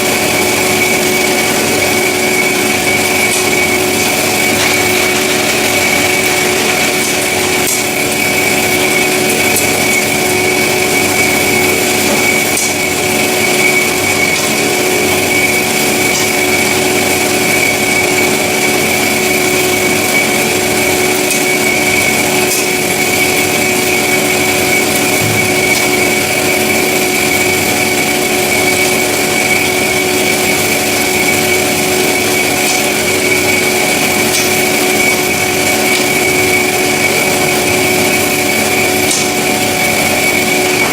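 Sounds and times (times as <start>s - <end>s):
band saw whining: 0.0s - 40.9s.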